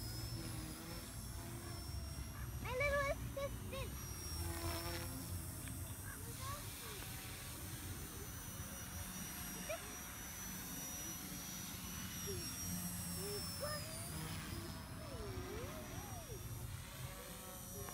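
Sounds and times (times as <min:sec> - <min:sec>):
toy helicopter rotors whining: 0:00.0 - 0:17.9.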